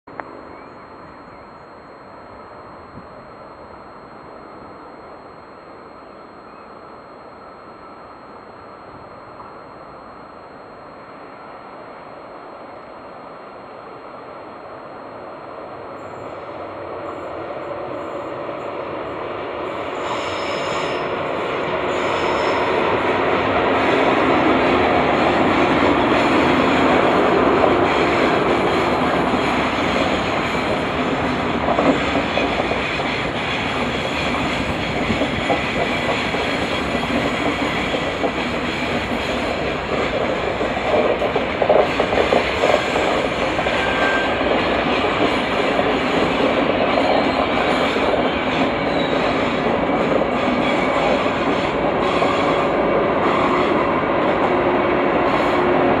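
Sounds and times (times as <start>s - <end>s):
train wheels on rails: 10.7s - 56.0s.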